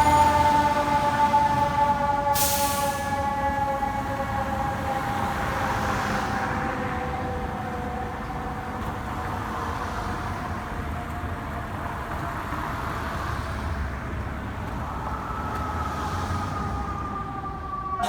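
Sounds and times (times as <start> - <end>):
fire engine siren: 0.0 - 18.0
street traffic: 0.0 - 18.0
truck engines rumbling: 0.0 - 18.0.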